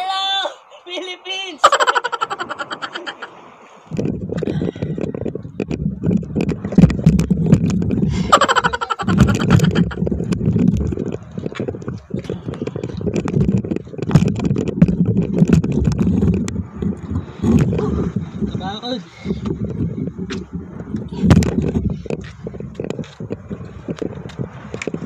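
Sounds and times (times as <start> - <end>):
low rumble on microphone: 3.9 - 25.0.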